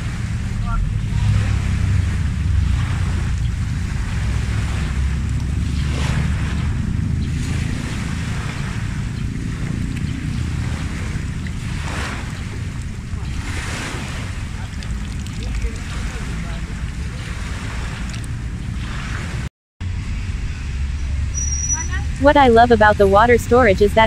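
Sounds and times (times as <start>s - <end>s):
wind buffeting microphone: 0.0s - 19.5s.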